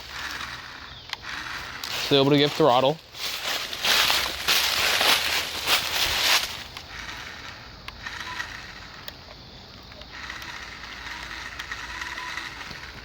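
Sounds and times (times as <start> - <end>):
small motor whirring: 0.0 - 13.0.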